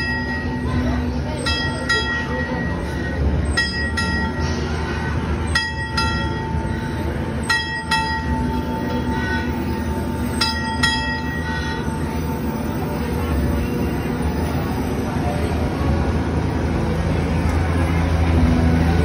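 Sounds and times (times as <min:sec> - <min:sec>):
locomotive bell clanging: 0:00.0 - 0:15.5
low train rumble: 0:00.0 - 0:19.0.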